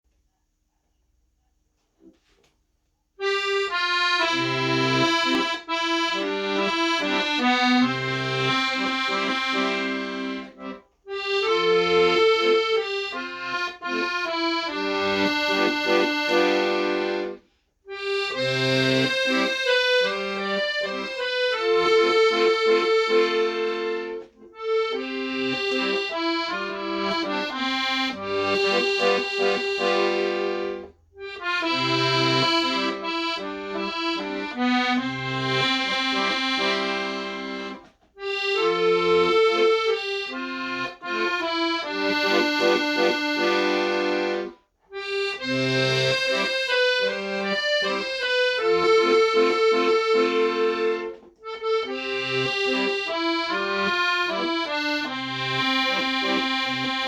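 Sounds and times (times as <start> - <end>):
accordion playing slow melody: 3.2 - 57.0.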